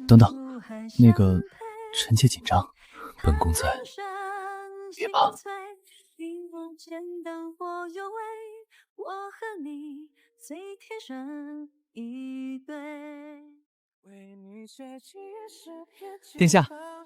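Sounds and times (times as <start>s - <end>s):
woman singing slow melody: 0.0s - 2.0s, 3.1s - 17.0s.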